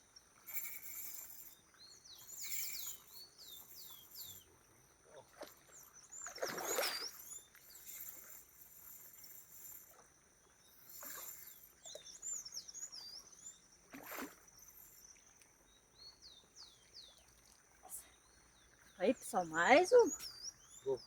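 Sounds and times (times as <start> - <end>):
small birds chirping: 0.0 - 4.6, 5.3 - 21.0.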